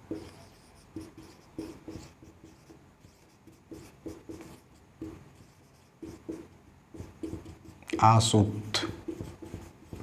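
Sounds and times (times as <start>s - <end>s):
marker writing on whiteboard: 0.0s - 10.0s.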